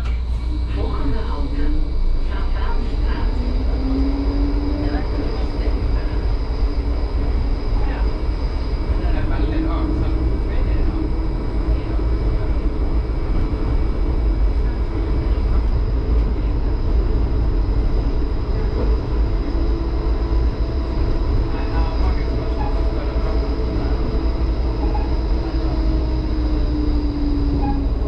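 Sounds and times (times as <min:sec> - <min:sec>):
traction equipment whine: 0:00.0 - 0:28.0
tram wheels rumbling on rails: 0:00.0 - 0:28.0.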